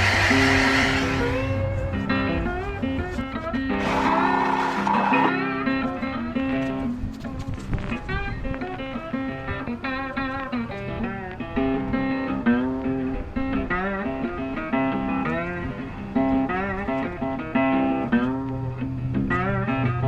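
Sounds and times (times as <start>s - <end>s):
guitar music with bass line: 0.0s - 20.0s.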